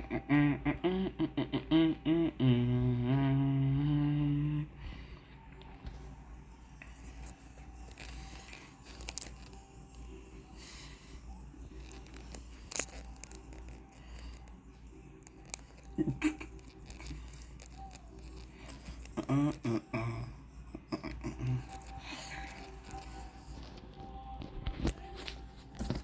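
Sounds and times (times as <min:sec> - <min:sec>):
faint music: 0:00.0 - 0:26.0.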